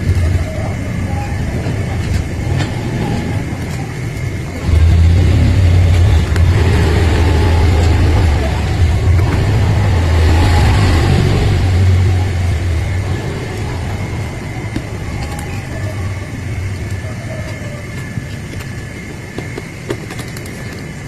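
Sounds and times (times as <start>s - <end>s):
low motor-like hum: 0.0s - 19.1s.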